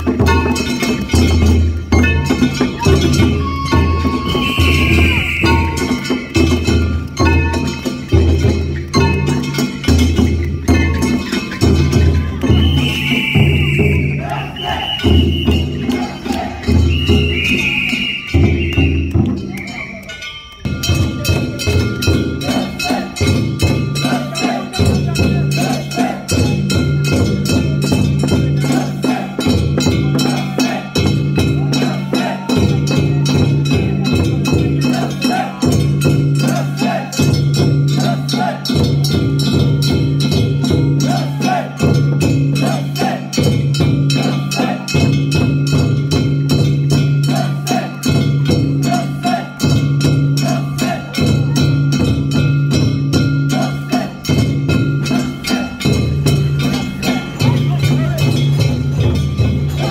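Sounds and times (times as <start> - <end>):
drums: 0.0 - 59.9
ringing metal gongs: 0.0 - 59.9.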